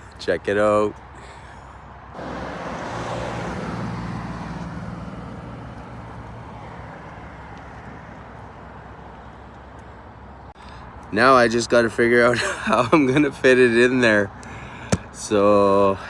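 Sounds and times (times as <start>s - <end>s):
vehicle passing with road noise: 0.0s - 15.9s.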